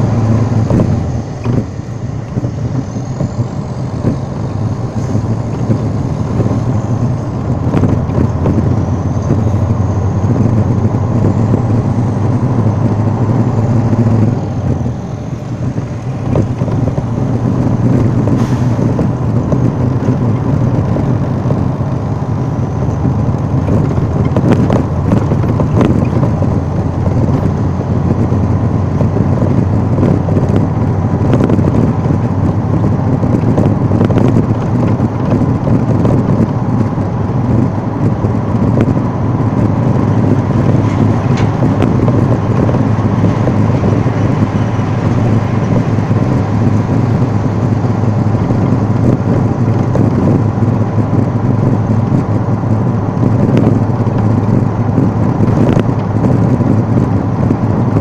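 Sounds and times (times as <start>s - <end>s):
vehicle engine drone: 0.0s - 58.0s.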